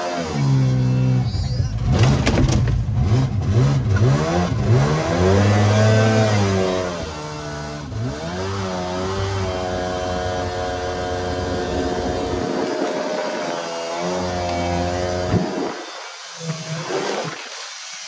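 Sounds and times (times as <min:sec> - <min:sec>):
boat engine revving: 0:00.0 - 0:17.4.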